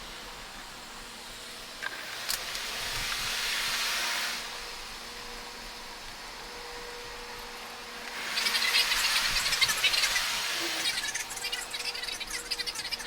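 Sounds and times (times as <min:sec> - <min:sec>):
loud hiss: 0:00.0 - 0:13.0
train interior running noise: 0:00.0 - 0:13.0.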